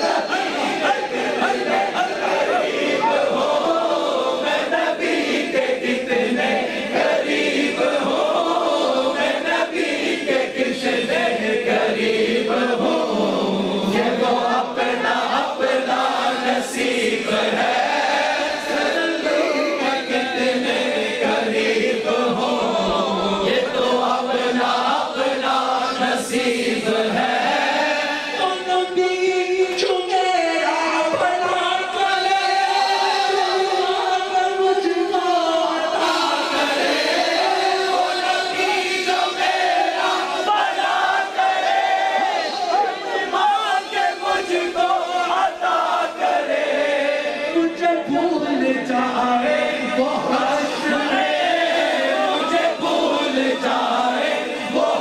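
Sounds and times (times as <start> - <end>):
crowd of men chanting: 0.0 - 55.0.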